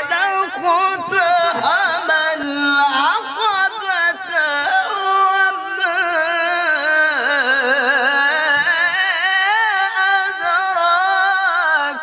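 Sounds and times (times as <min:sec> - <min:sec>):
person chanting melodic recitation: 0:00.0 - 0:12.0.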